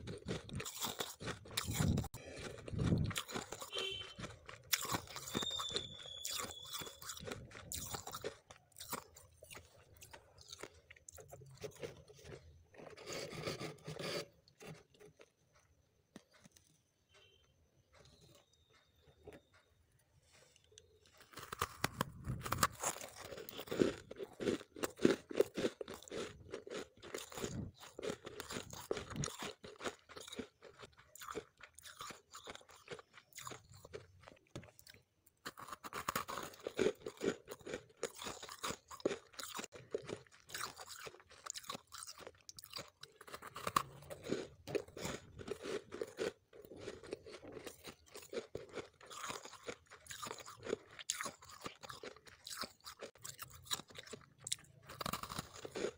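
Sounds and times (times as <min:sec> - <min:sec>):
crunching and chewing frost: 0:00.0 - 0:55.9.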